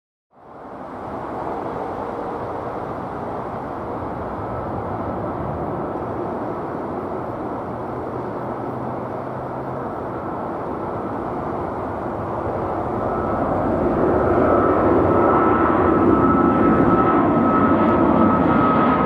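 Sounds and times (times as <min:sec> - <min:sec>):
jet engine rumble: 0:00.3 - 0:19.0
high jet whine: 0:00.4 - 0:19.0.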